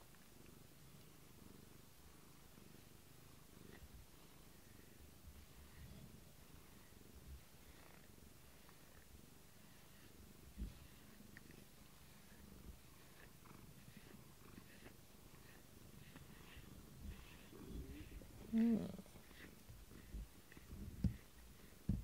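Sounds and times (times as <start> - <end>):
cat purring faintly: 0.0 - 22.0
rubber brush grooming fur: 3.7 - 22.0.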